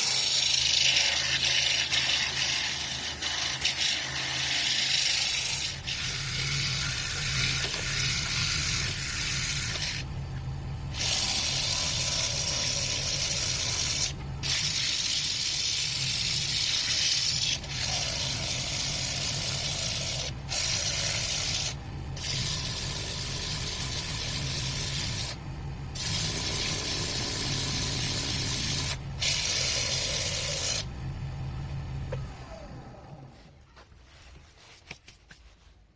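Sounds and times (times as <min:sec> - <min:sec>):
wood lathe humming: 0:00.0 - 0:10.1, 0:10.9 - 0:30.9.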